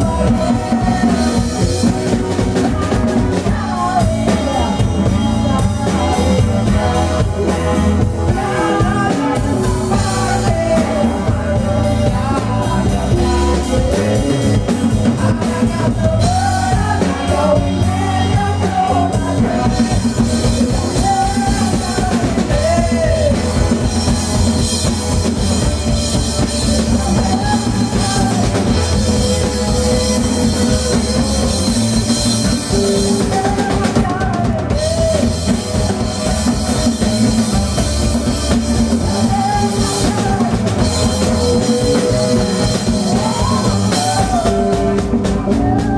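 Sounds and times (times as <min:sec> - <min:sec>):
woman singing: 0:00.0 - 0:24.0, 0:26.6 - 0:36.0, 0:38.2 - 0:45.9
live band playing: 0:00.0 - 0:45.9.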